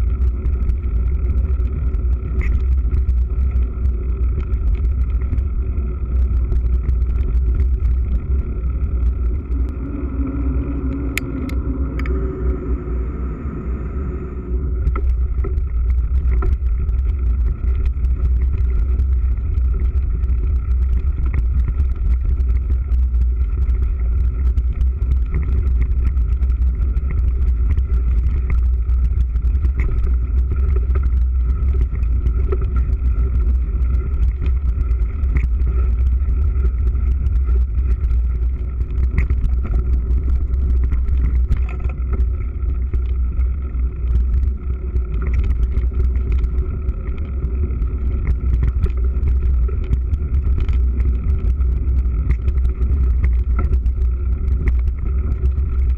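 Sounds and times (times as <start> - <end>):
bike rattles and clicks: 0.0 - 12.6, 14.6 - 55.9
rumble of wind and ground: 0.0 - 55.9.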